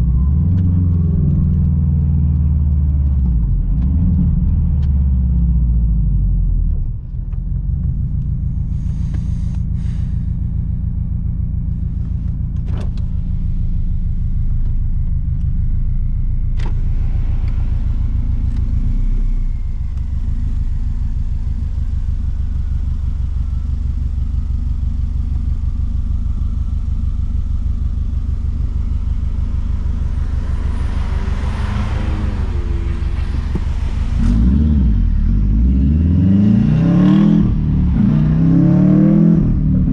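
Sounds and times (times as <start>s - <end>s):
car exhaust rumbling: 0.0s - 39.9s.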